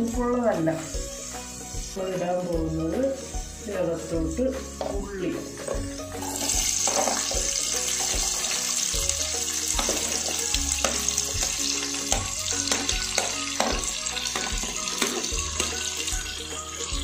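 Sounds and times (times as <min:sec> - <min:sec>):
onions sizzling in hot oil: 0:00.1 - 0:17.0.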